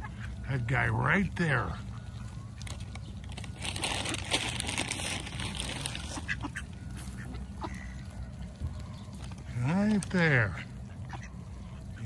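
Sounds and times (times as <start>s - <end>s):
ducks quacking: 0.0s - 12.0s
low steady rumble: 0.0s - 12.0s
small clicks of feeding: 1.8s - 12.0s.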